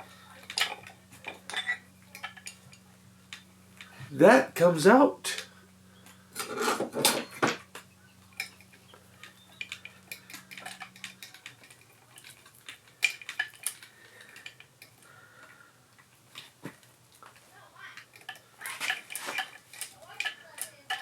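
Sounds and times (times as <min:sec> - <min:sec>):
metal tools clinking: 0:00.0 - 0:15.0, 0:18.0 - 0:21.0.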